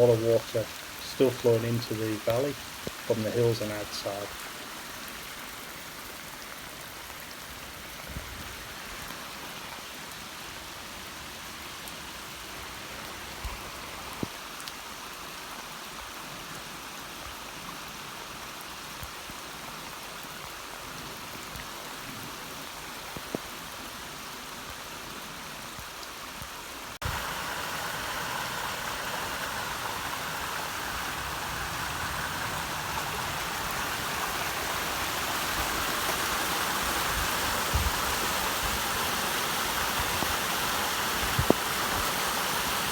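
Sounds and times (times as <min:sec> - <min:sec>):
falling rain: 0:00.0 - 0:42.9
floodwater rushing from pipe: 0:00.0 - 0:42.9.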